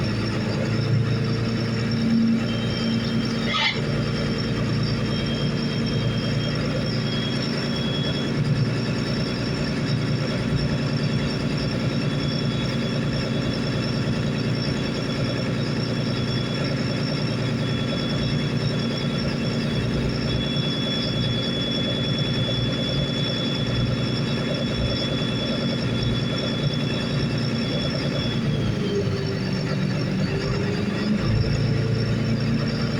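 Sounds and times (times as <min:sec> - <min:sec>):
thin high whine: 0:00.0 - 0:28.9
boat diesel engine drone: 0:00.0 - 0:32.9.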